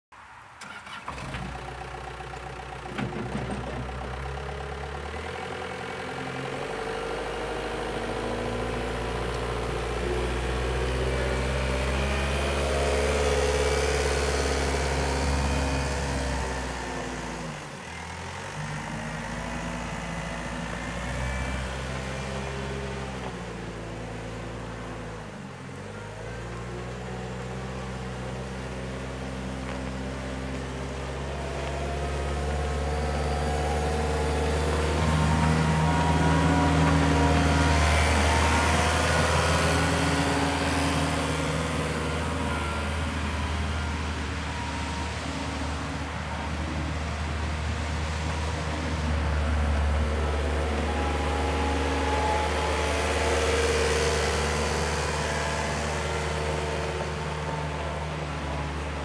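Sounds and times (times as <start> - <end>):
wheel loader diesel engine running: 0.6 - 59.0.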